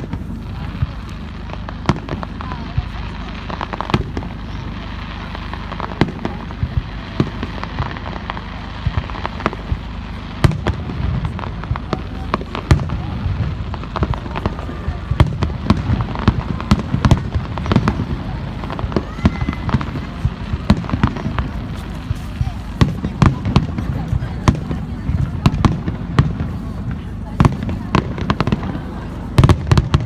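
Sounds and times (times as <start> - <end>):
fireworks bangs and crackles: 0.0 - 30.0
low rumble: 0.0 - 30.0.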